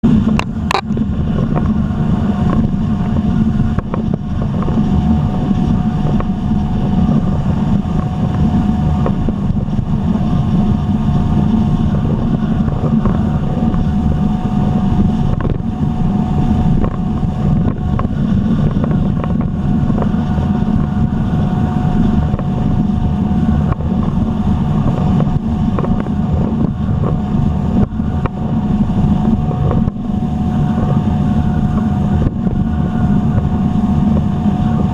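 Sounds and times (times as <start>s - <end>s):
jet ski engine whine: 0.0s - 34.9s.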